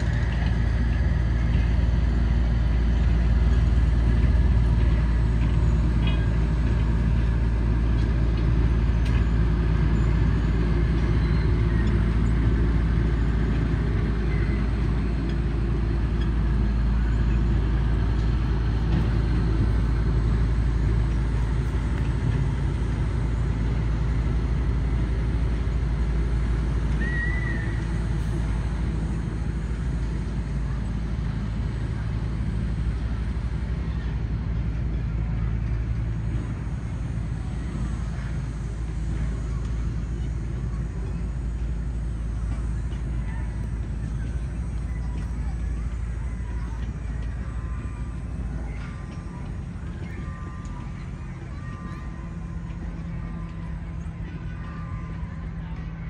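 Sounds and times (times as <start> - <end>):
diesel locomotive engine running: 0.0 - 56.0.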